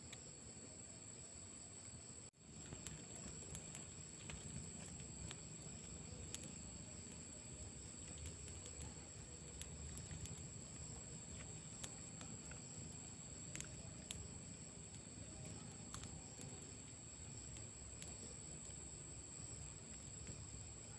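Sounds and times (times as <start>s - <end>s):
crickets chirring: 0.0s - 20.9s.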